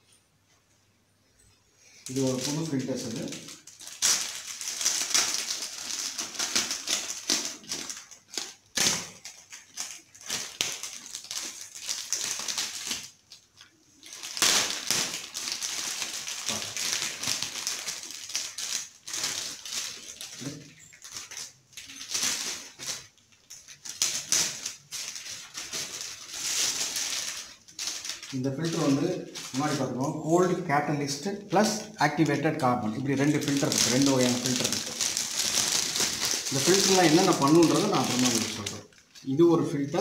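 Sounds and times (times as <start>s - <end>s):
plastic film crinkling and tearing: 1.8s - 40.0s.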